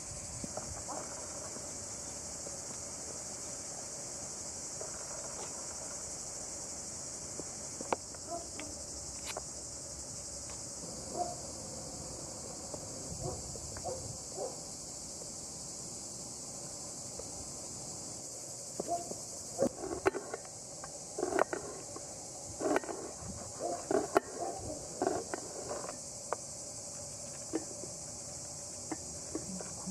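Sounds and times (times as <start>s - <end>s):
insect chorus: 0.0s - 29.9s.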